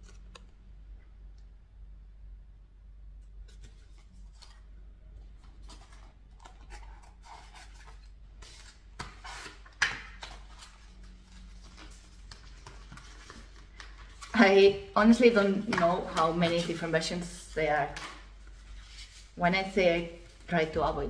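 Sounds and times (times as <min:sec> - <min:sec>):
paper and plastic rustling: 0:03.4 - 0:21.0.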